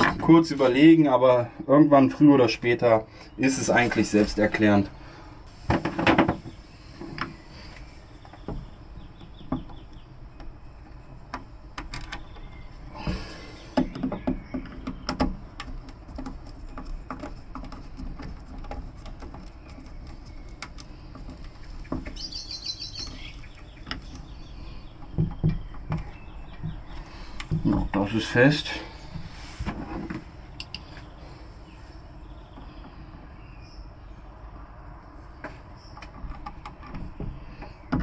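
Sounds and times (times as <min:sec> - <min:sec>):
bird chirping: 0:06.4 - 0:29.4, 0:30.3 - 0:38.0.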